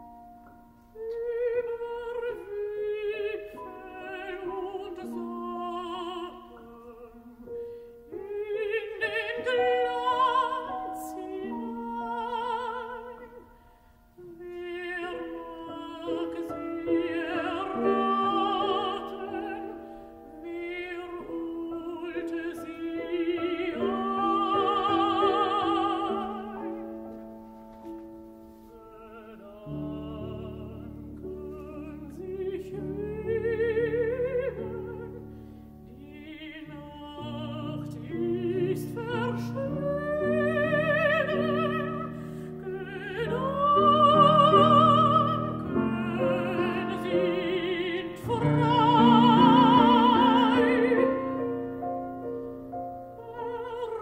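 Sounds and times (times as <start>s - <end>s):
piano accompaniment: 0.0s - 54.0s
woman singing with vibrato: 0.9s - 13.6s, 14.2s - 27.6s, 28.6s - 52.4s, 53.0s - 54.0s.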